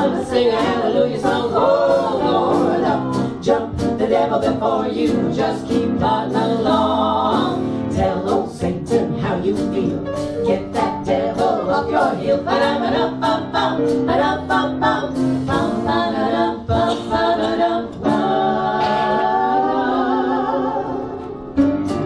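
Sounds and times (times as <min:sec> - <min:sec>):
women singing swing song: 0:00.0 - 0:21.4.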